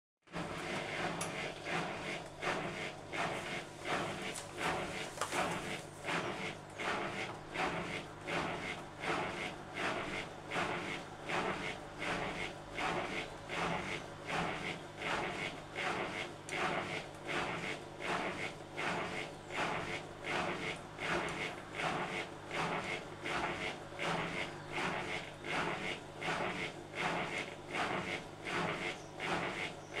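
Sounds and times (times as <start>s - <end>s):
washer-dryer drum swishing: 0.3s - 30.0s.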